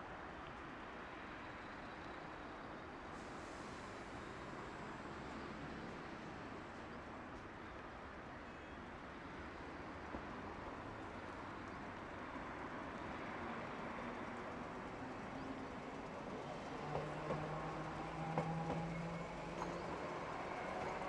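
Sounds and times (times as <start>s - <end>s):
streetcar approaching: 0.0s - 21.0s.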